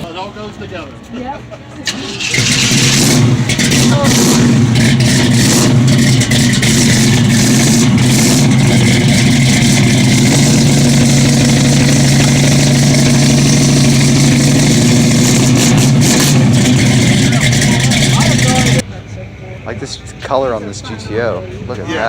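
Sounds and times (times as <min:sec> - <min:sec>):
car engine idling: 0:01.9 - 0:20.0.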